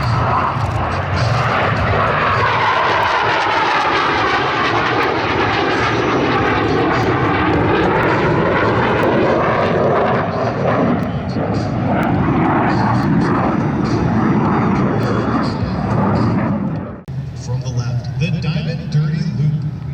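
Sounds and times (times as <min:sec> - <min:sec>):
jets flying past: 0:00.0 - 0:19.9.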